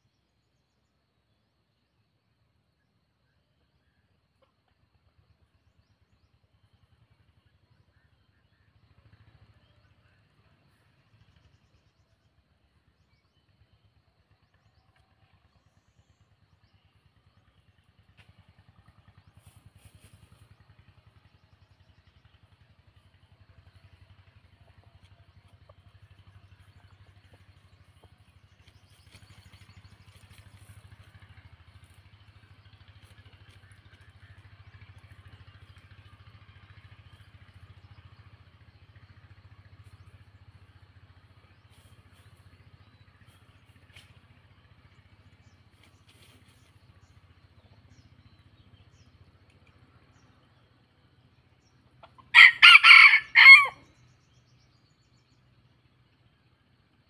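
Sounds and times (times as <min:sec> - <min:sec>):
distant engine drone: 0:00.0 - 0:57.0.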